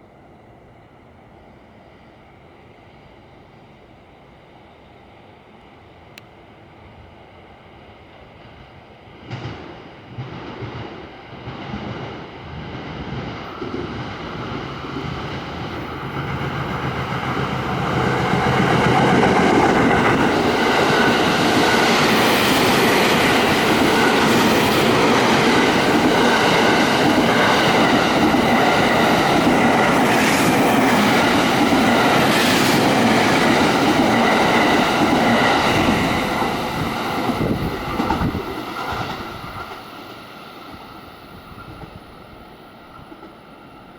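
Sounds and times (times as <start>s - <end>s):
electric train running on rails: 0.0s - 43.9s.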